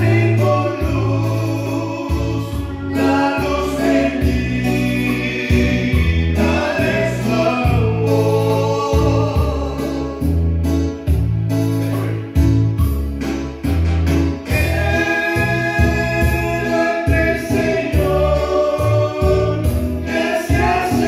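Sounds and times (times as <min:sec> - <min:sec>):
person singing into a microphone: 0:00.0 - 0:10.4, 0:14.5 - 0:21.0
bass line: 0:00.0 - 0:21.0
regular beat: 0:00.0 - 0:21.0.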